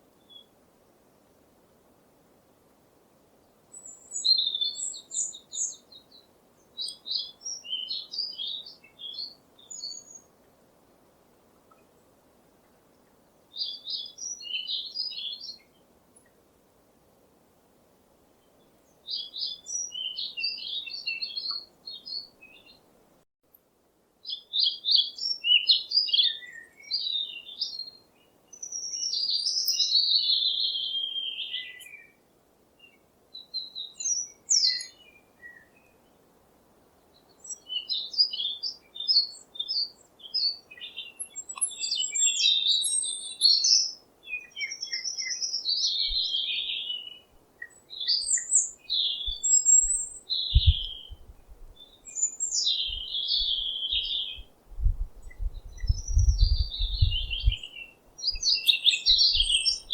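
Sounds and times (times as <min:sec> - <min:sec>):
songbirds chirping and trilling: 0:03.3 - 0:16.4, 0:18.4 - 0:23.0, 0:24.2 - 0:59.9.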